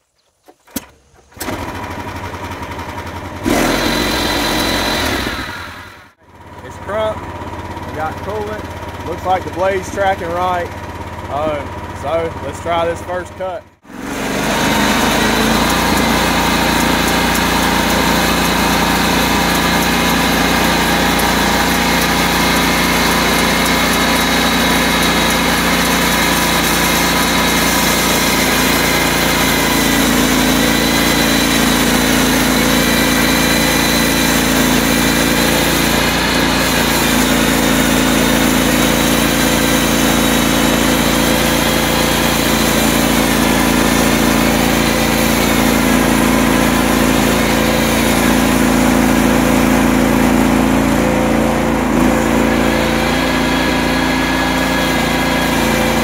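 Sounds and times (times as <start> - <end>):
sawmill engine running under load: 1.4 - 56.0.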